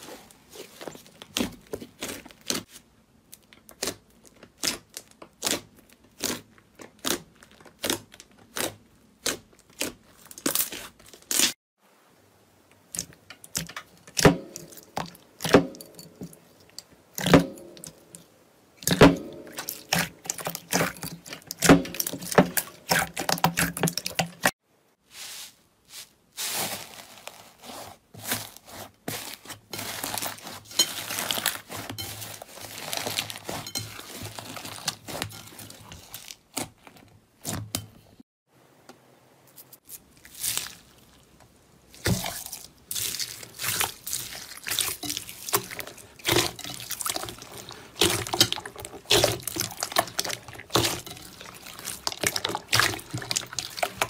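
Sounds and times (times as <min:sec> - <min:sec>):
slime squelching: 0:00.0 - 0:11.6, 0:12.8 - 0:24.6, 0:25.2 - 0:37.8, 0:39.8 - 0:54.0.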